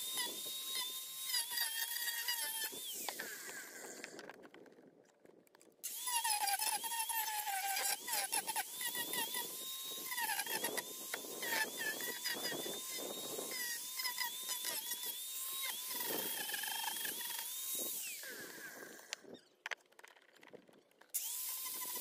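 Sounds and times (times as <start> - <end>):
angle grinder motor whine: 0.0 - 4.3, 5.8 - 19.8, 21.2 - 22.0
disc grinding wood: 0.0 - 22.0.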